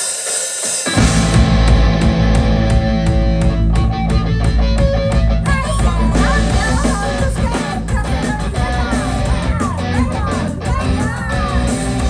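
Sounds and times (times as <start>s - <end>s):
driving drum beat: 0.0s - 12.0s
electric guitars: 0.8s - 12.0s.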